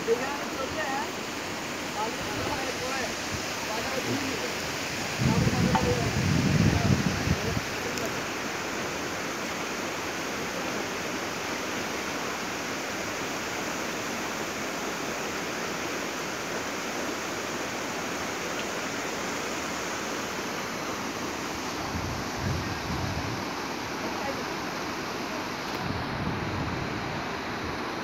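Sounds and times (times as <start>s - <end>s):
river rushing over rocks: 0.0s - 28.0s.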